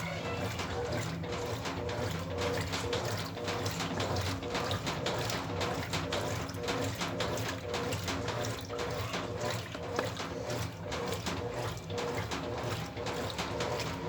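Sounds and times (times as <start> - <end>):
low steady motor hum: 0.0 - 14.0
water sloshing in washing machine: 0.0 - 14.0.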